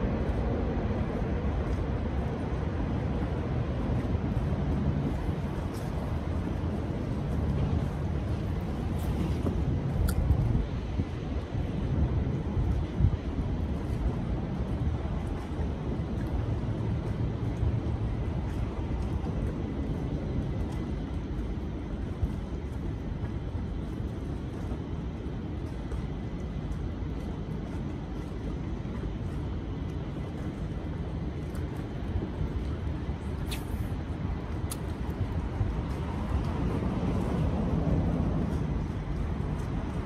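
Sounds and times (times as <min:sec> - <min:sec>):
distant city traffic rumble: 0:00.0 - 0:40.0.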